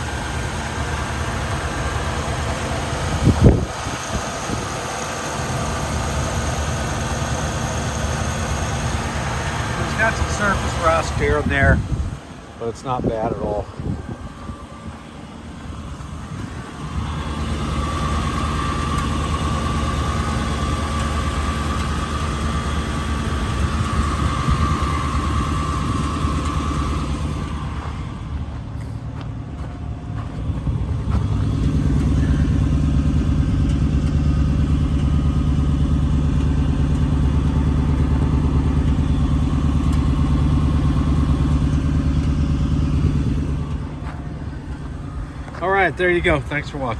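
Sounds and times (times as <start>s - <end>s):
steady whine: 0.0s - 46.9s
vehicle engine running: 0.0s - 46.9s.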